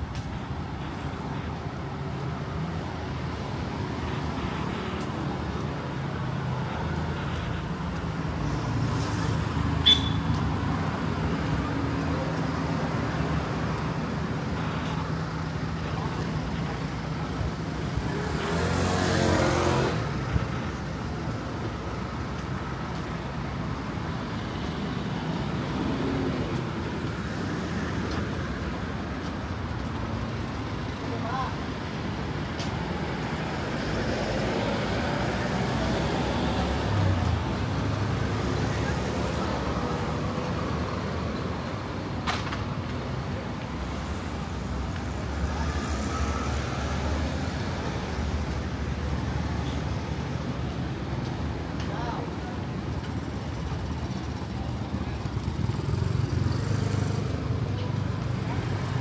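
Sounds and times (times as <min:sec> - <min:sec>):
street traffic hum: 0:00.0 - 0:59.0.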